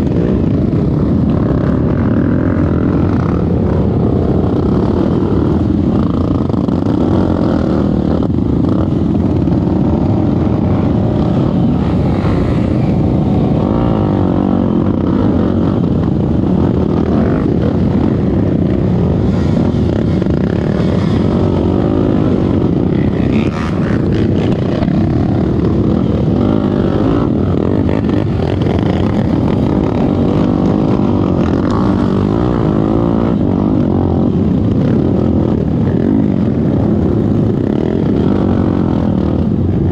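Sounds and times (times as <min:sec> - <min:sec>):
trail motorcycle engine revving: 0:00.0 - 0:39.9.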